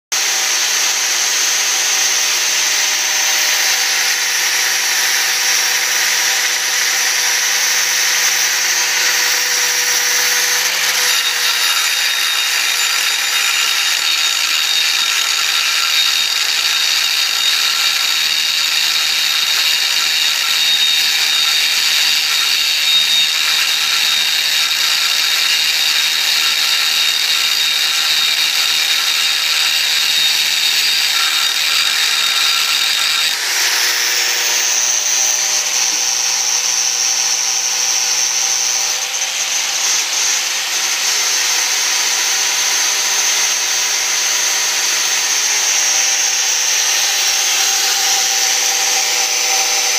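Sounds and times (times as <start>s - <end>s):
angle grinder grinding steel: 0.1s - 49.9s.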